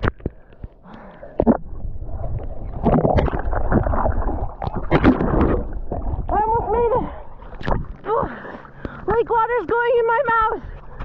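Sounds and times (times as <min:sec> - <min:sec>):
water splashing from swimming strokes: 0:00.0 - 0:09.2.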